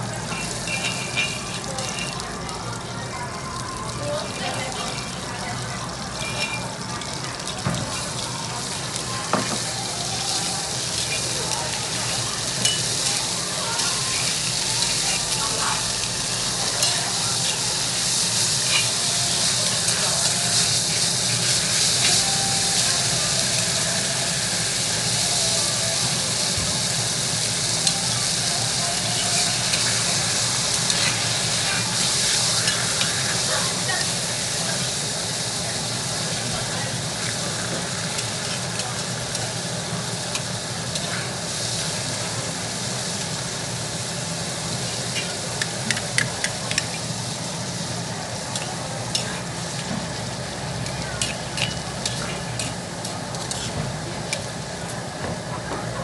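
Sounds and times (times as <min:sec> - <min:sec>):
meat sizzling in oil: 0:00.0 - 0:55.5.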